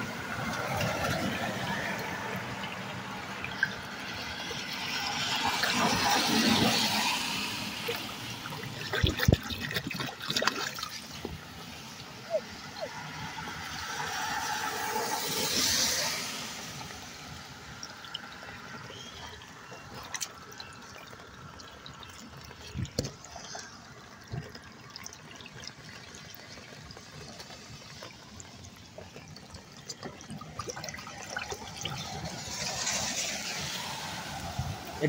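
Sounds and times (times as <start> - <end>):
water drips: 0.0 - 35.0
water gurgling down drain: 0.0 - 35.0
water rushing: 0.0 - 35.0.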